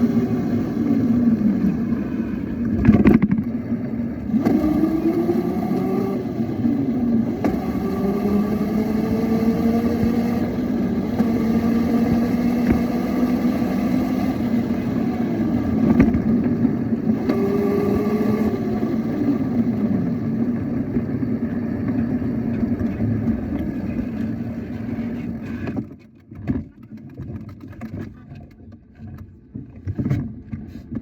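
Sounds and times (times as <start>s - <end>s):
small motorbike engine running: 0.0s - 25.8s.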